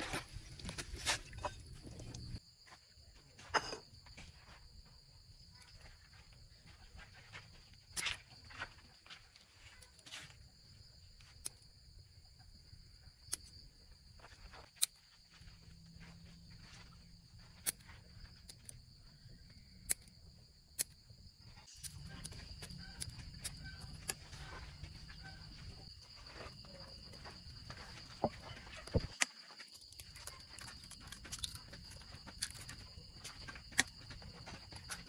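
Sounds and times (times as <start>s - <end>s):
high insect chirr: 3.9s - 35.0s.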